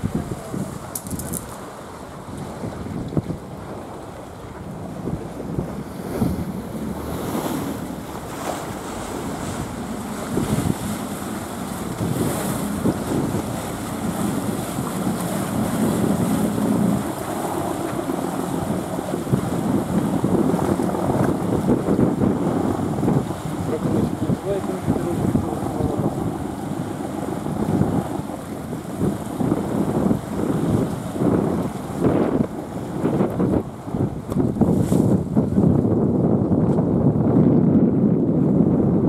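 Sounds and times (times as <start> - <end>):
waves washing against pier: 0.0 - 39.0
wind buffeting microphone: 0.0 - 39.0.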